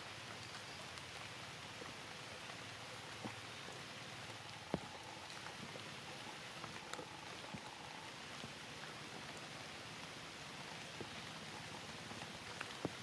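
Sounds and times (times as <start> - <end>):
light rain on grass and stone: 0.0 - 13.0
water drips: 0.0 - 13.0.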